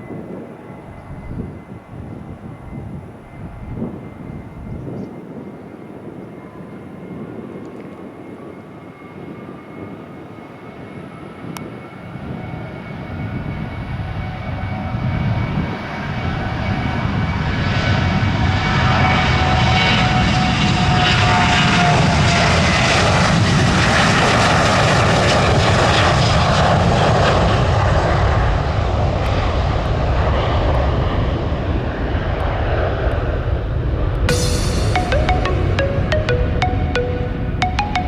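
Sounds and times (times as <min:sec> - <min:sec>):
jet aircraft engines: 0:00.0 - 0:34.5.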